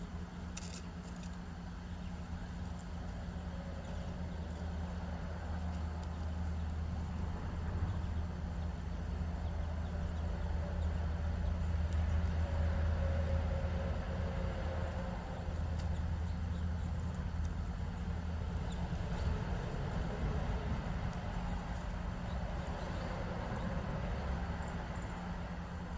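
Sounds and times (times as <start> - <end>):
faint droning tone: 0.0 - 25.9
low background rumble: 0.0 - 25.9.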